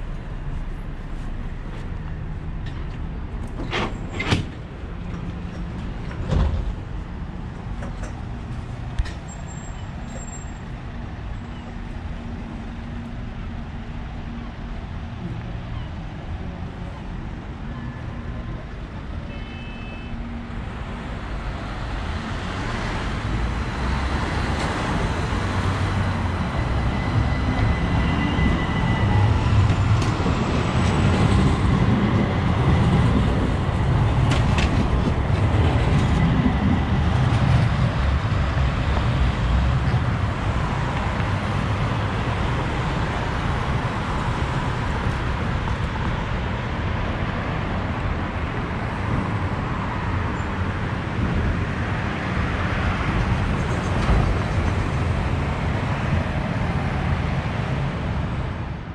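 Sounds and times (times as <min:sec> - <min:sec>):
road traffic: 0:00.0 - 0:58.9
tram rumbling on rails: 0:00.0 - 0:58.9.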